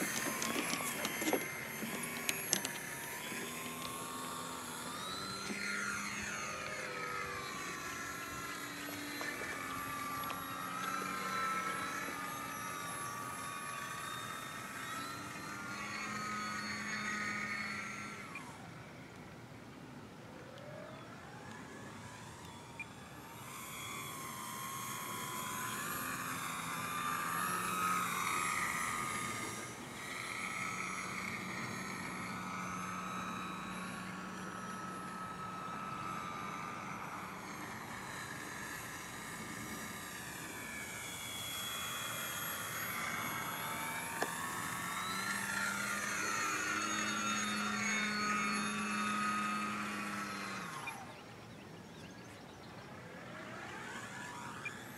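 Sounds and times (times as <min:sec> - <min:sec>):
model plane motor whining: 0:00.0 - 0:54.9.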